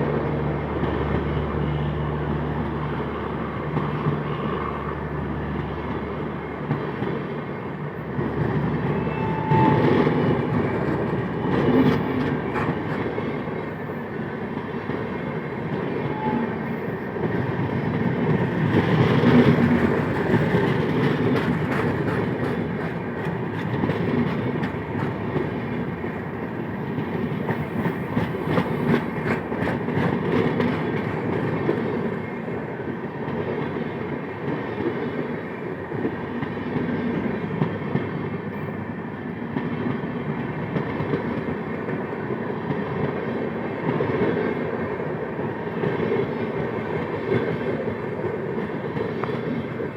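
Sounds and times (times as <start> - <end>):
train rumble: 0.0 - 49.9
train wheels clicking on rail joints: 8.0 - 49.9.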